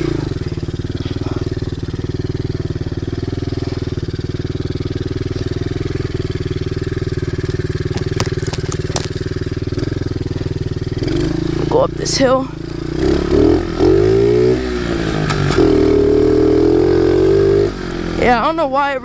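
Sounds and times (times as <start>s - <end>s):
pit bike engine idling: 0.0s - 19.0s.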